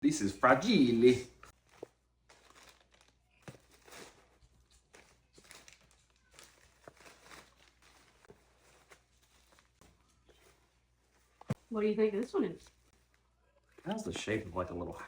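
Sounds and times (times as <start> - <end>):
packing material rustling: 0.6 - 15.0.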